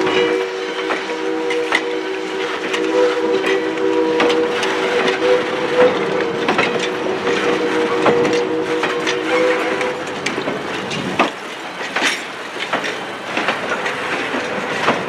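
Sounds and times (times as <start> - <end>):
wheels clicking over rail joints: 0.0 - 15.0.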